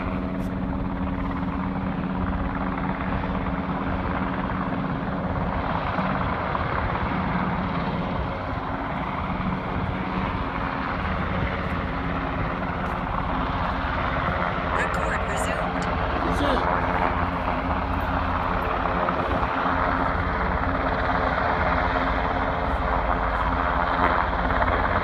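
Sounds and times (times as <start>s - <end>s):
helicopter flying: 0.0s - 25.0s.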